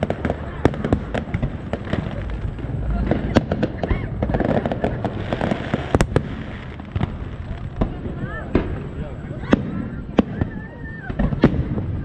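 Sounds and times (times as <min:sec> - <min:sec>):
firework bursts and crackling: 0:00.0 - 0:12.0
sharp firework bangs: 0:00.0 - 0:12.0.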